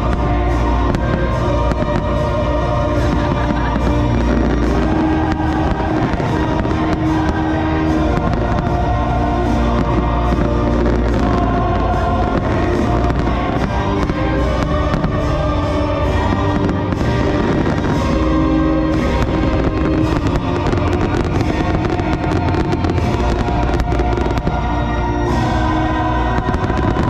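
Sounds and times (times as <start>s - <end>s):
fireworks bursting: 0.0s - 27.0s
loud show music: 0.0s - 27.0s.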